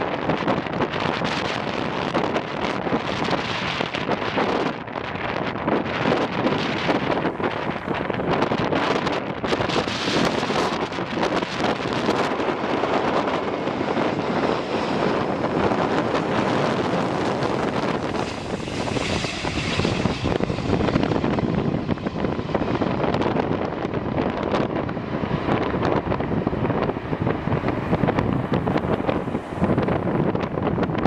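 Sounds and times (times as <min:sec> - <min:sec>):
jet engines running: 0:00.0 - 0:31.0
wind buffeting microphone: 0:00.0 - 0:31.0.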